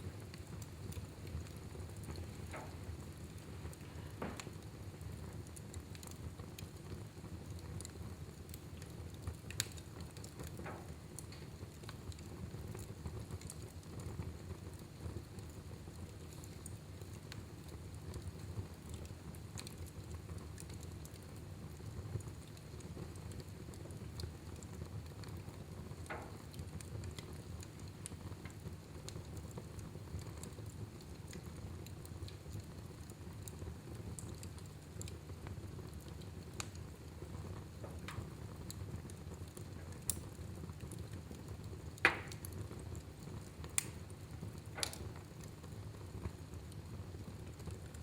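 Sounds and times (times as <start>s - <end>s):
fire crackling in fireplace: 0.0s - 48.0s.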